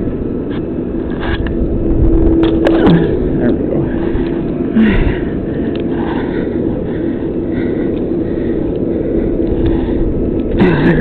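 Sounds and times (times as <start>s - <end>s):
crane engine rumbling: 0.0s - 11.0s.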